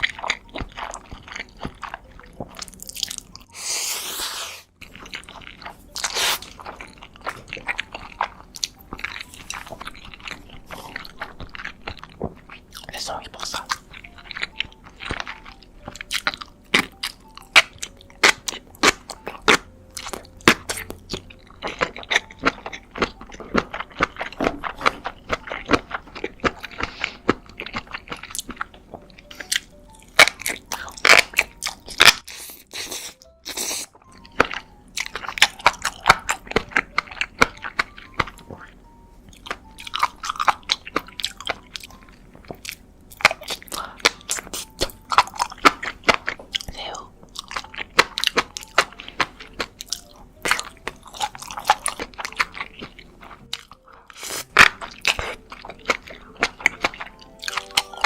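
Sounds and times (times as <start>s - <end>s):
chewing noodles: 0.0s - 58.0s.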